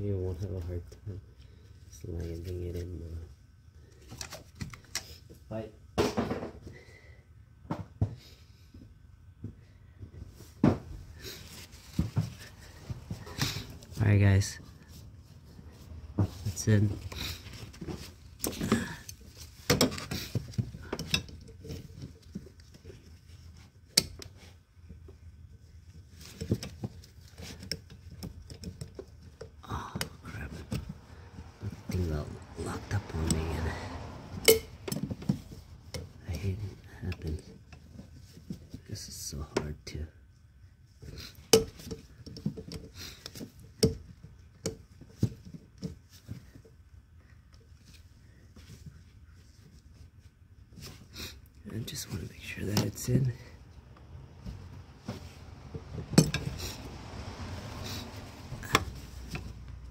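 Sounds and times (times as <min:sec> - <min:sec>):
gloves and hose rustling: 0:10.0 - 0:39.1, 0:40.2 - 0:59.9.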